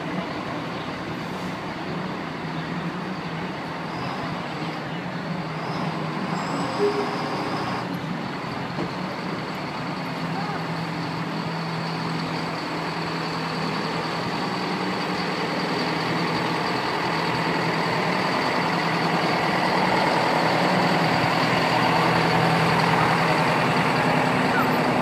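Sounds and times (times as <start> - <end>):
diesel truck engine rolling past: 0.0 - 25.0.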